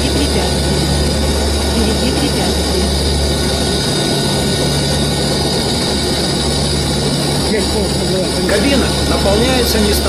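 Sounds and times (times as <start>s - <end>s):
turboprop cockpit drone: 0.0s - 10.0s.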